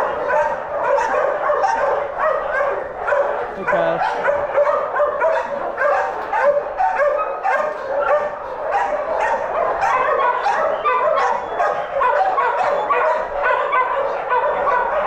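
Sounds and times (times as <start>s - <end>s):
many dogs barking: 0.0s - 15.0s.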